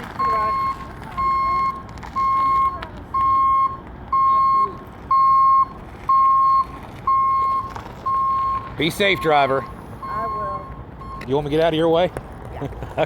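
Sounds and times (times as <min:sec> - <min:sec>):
vehicle backup alarm beeping: 0:00.0 - 0:11.9.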